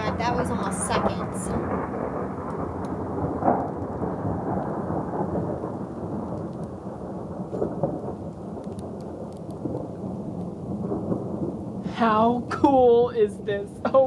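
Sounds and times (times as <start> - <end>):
falling precipitation: 0.0 - 14.0
thunder crack: 0.0 - 14.0
thunder rumbling: 0.0 - 14.0.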